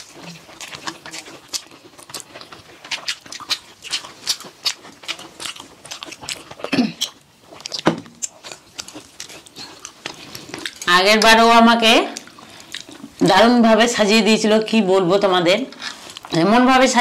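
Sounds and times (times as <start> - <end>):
wet chewing and lip smacking: 0.0 - 13.3, 15.8 - 16.4.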